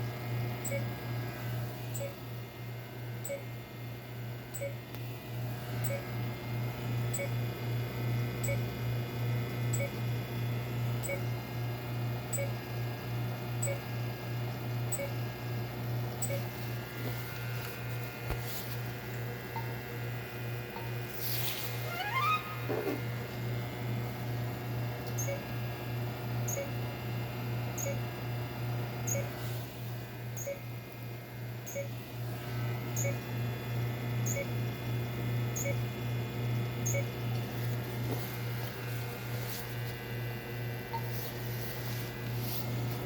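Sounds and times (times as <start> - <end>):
electrical equipment humming: 0.0 - 43.0.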